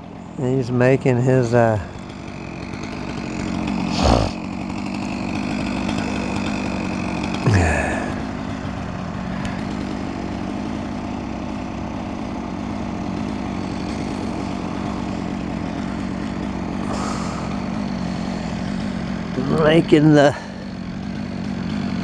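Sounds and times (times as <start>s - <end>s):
chainsaw revving: 0.0s - 22.0s
steady engine drone: 0.0s - 22.0s.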